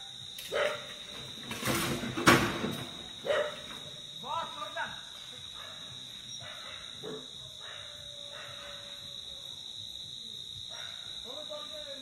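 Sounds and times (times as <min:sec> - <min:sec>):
night insects droning: 0:00.0 - 0:12.0.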